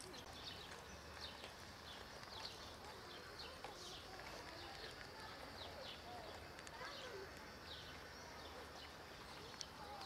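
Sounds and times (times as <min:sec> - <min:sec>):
quiet outdoor hiss: 0:00.0 - 0:10.0
small birds chirping: 0:00.0 - 0:10.0.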